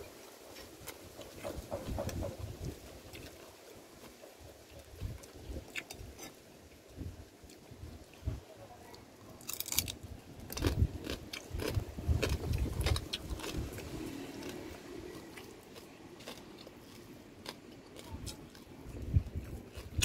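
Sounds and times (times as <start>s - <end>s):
chewing and crunching food: 0.0s - 8.3s, 9.0s - 20.0s.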